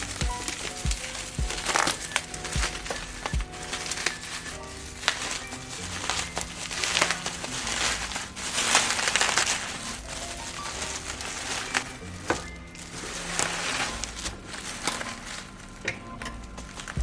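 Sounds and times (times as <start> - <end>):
packaging crinkling and rustling: 0.0 - 17.0
soft background music: 0.0 - 17.0.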